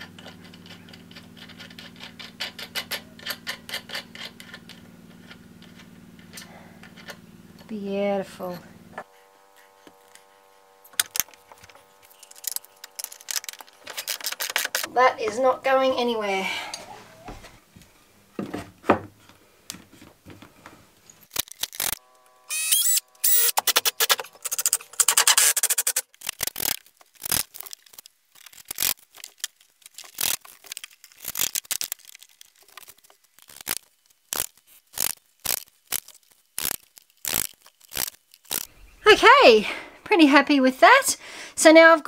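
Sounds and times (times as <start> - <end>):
wood scraping: 0.0 - 17.7, 18.4 - 39.4.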